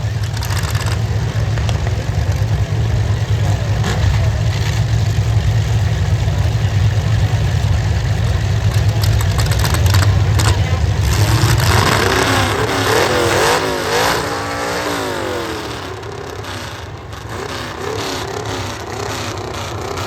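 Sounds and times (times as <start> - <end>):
car engines rumbling: 0.0 - 20.0.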